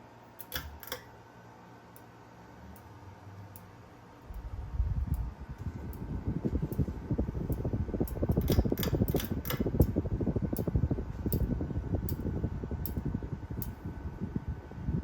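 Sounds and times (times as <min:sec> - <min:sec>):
ceiling fan fluttering rumble: 0:00.0 - 0:15.0
faint motor hum: 0:00.0 - 0:15.0.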